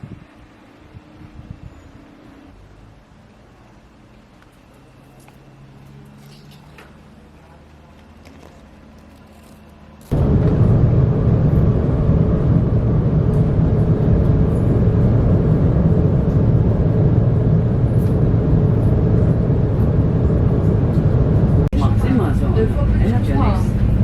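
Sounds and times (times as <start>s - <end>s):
moving vehicle rumble: 0.0s - 24.0s.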